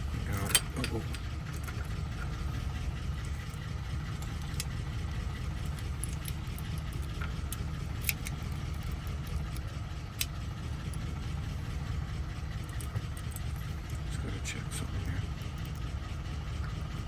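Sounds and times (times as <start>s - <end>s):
motor rumbling: 0.0s - 17.0s
small metal clicks: 0.2s - 14.1s, 15.2s - 16.8s.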